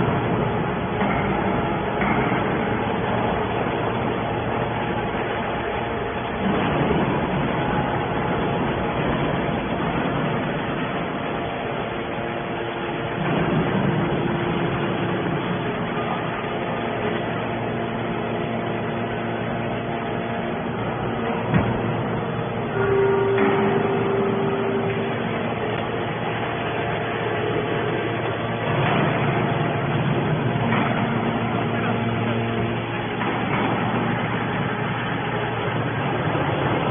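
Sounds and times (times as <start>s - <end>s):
faint motor hum: 0.0s - 36.9s
hydraulic baler running: 0.0s - 36.9s.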